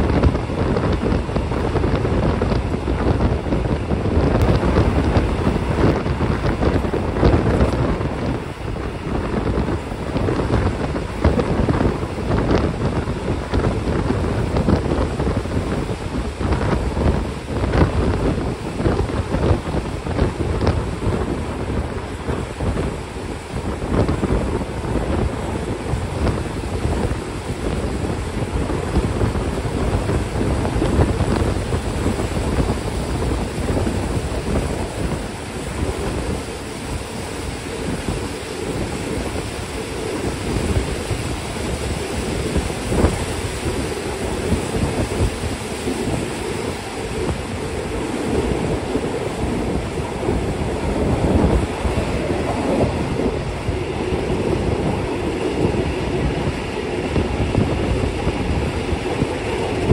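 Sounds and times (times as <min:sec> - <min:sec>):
train rumbling and rattling: 0:00.0 - 0:59.9
wind noise on microphone: 0:00.0 - 0:59.9.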